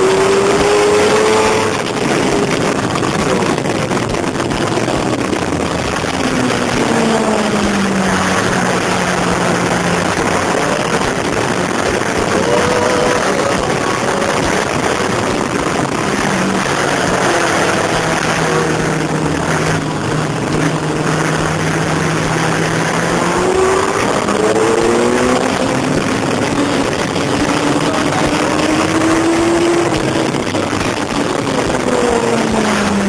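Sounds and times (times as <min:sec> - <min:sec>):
motorcycle engine at speed: 0:00.0 - 0:33.0
wind rush on microphone: 0:00.0 - 0:33.0.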